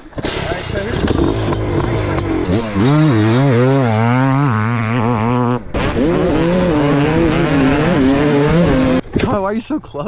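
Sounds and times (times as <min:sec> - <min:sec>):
dirt bike engine revving: 0:00.2 - 0:09.2.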